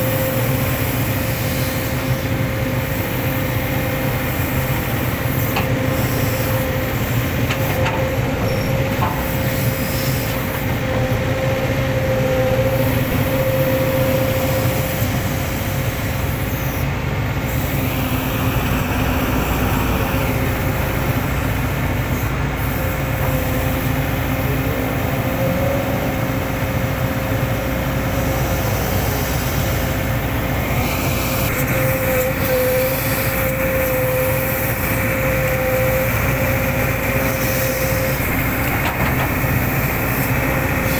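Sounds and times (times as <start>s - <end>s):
constant whine: 0.0s - 40.9s
diesel engine running: 0.0s - 40.9s.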